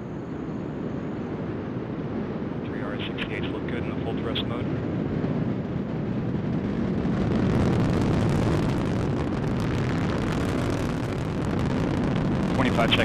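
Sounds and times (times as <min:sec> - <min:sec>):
rocket engines rumbling: 0:00.0 - 0:13.0
rocket engine crackling: 0:00.1 - 0:13.0.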